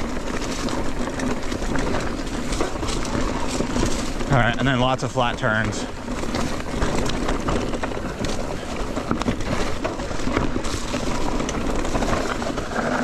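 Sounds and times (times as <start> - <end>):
bike rattling and knocking: 0.0 - 13.0
bike tyres rolling on dirt: 0.0 - 13.0.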